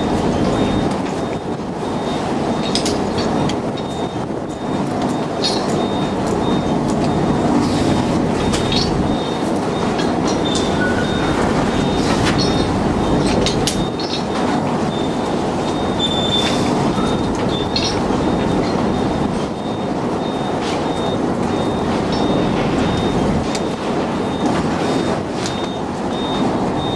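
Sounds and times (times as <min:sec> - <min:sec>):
heavy machinery rumbling: 0:00.0 - 0:26.9.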